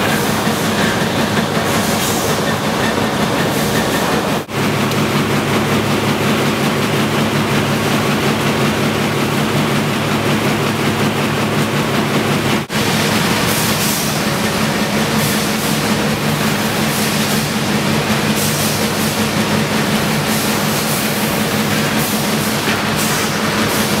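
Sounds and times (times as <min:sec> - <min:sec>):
machinery clatter and hum: 0:00.0 - 0:24.0.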